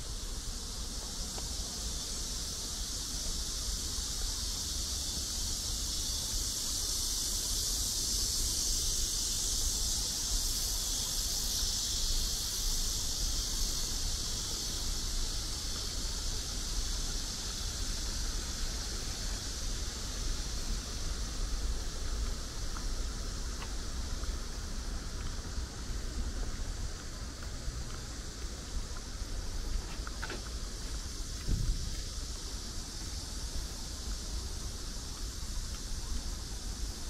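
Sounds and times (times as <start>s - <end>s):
constant low rumble: 0.0s - 37.0s
insects droning: 0.0s - 37.0s.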